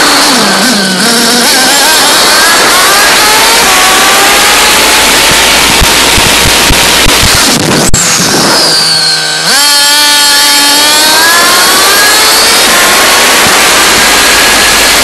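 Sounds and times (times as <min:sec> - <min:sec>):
small nitro engine revving: 0:00.0 - 0:15.0.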